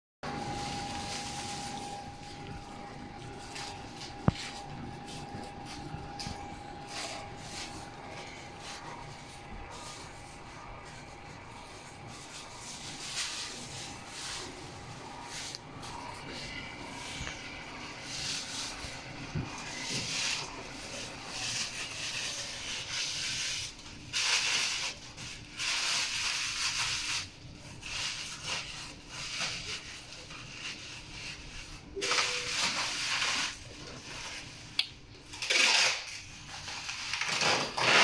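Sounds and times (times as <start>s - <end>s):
roller mixer rubbing hiss: 0.3s - 34.7s.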